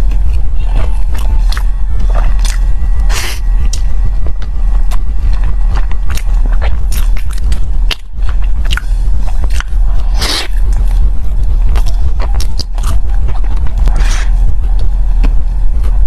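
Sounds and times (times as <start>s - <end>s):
chewing and biting bread: 0.0s - 16.0s
low steady hum: 0.0s - 16.0s.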